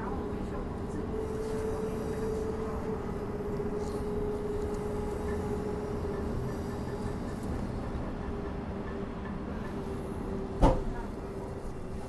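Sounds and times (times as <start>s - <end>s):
constant hum: 0.0s - 12.0s
train rumble inside carriage: 0.0s - 12.0s.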